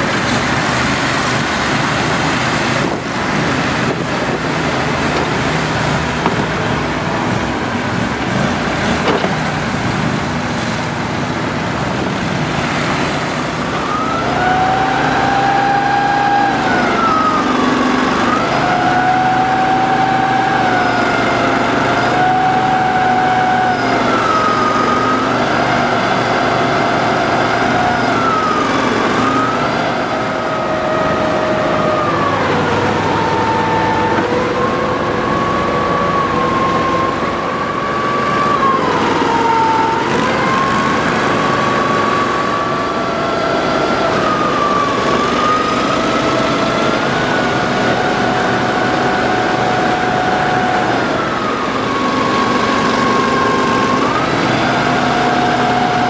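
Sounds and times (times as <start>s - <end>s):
atv engines running: 0.0s - 56.0s
high engine whine: 0.0s - 56.0s
water splashing: 0.0s - 56.0s.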